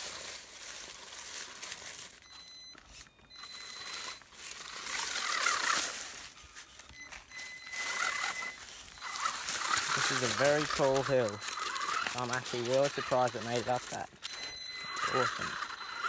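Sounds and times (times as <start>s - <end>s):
crunching of dry leaves and dirt: 0.0s - 16.0s
electric motor whining: 0.0s - 16.0s.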